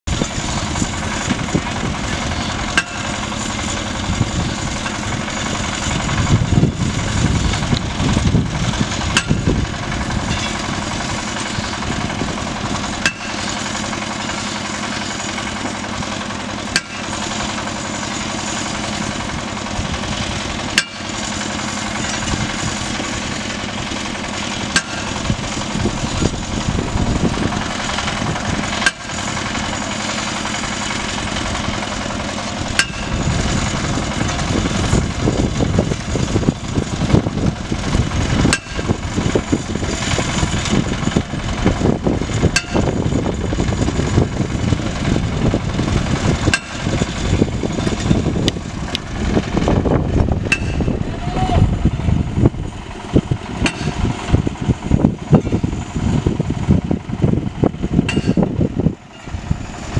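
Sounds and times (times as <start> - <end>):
drilling rig engine running: 0.0 - 59.9
steady hum: 0.1 - 59.9.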